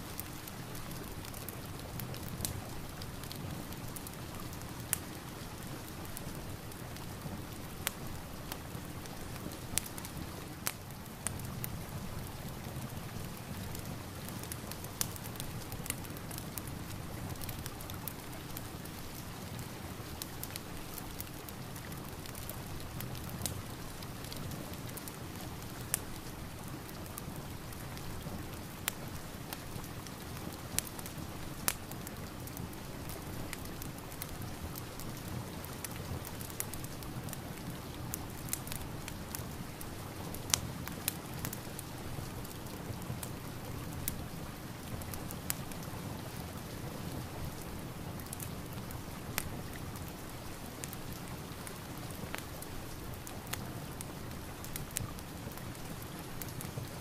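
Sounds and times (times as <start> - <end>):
steady rain hiss: 0.0 - 57.0
fireplace wood crackling: 0.1 - 57.0.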